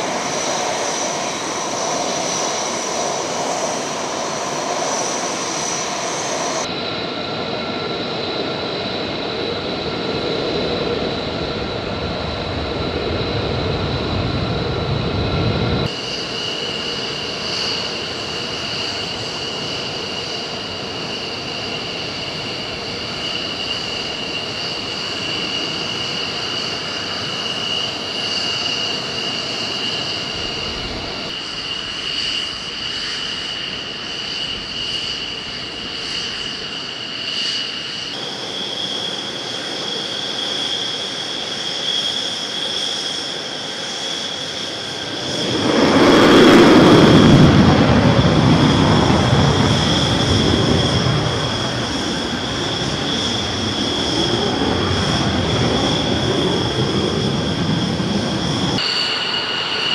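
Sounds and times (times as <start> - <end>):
jet engines idling whine: 0.0 - 59.9.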